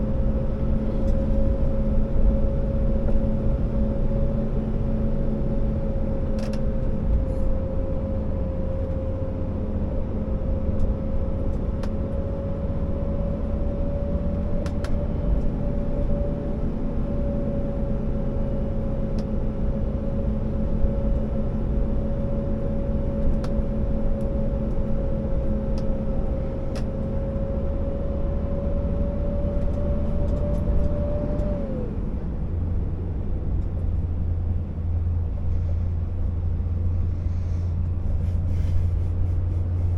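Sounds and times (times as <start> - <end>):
diesel truck engine rumble: 0.0 - 39.9
engine whine: 0.0 - 39.9.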